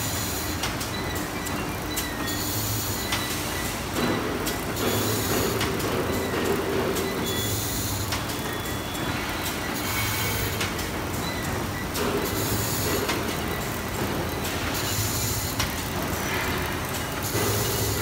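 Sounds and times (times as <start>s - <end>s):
sharp machine clicks: 0.1s - 18.0s.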